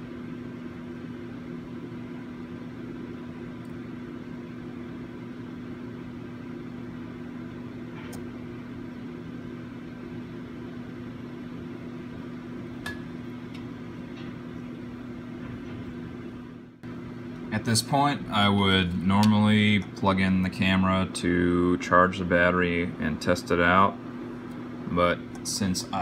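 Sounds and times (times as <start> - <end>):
steady electric hum: 0.0 - 26.0.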